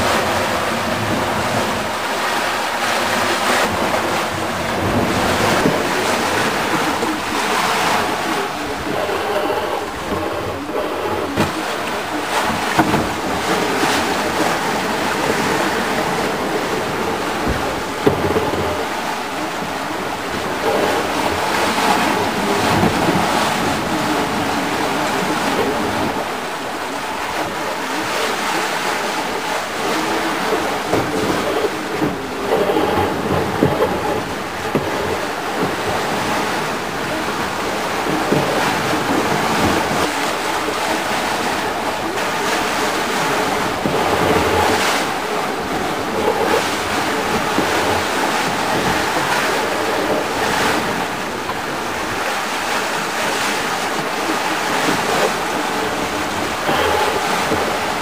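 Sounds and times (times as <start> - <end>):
sea water rushing and splashing: 0.0 - 58.0.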